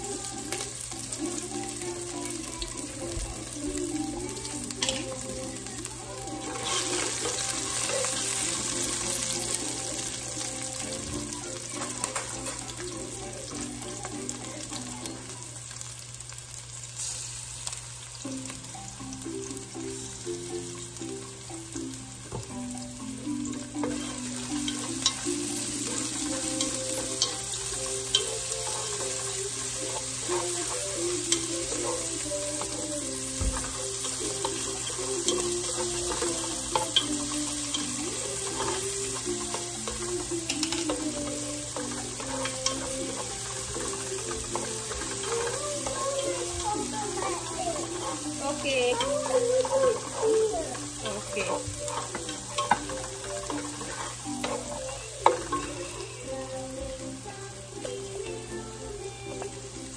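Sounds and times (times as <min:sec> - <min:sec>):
background music: 0:00.0 - 0:16.4, 0:17.0 - 0:59.9
onion sizzling in oil: 0:00.0 - 0:59.9.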